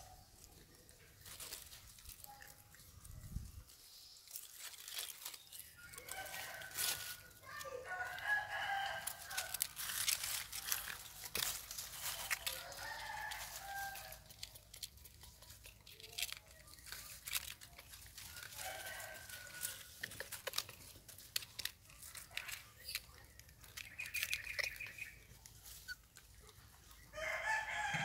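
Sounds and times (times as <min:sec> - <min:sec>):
dry leaves crackling and rustling: 0:00.0 - 0:28.0.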